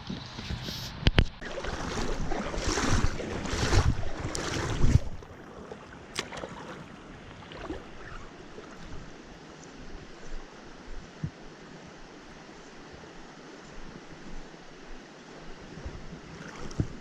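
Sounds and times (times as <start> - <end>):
stream water flowing: 1.2 - 17.0.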